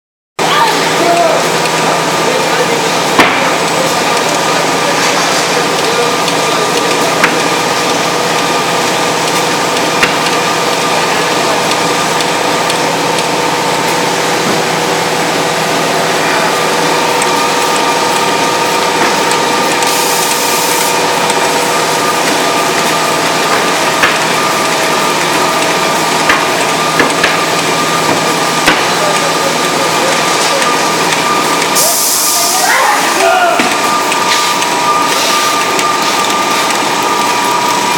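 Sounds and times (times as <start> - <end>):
machine running continuously: 0.4 - 37.9.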